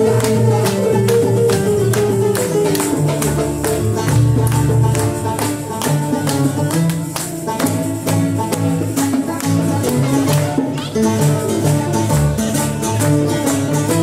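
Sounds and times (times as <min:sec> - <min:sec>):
hand percussion beat: 0:00.0 - 0:14.0
plucked lute melody: 0:00.0 - 0:14.0.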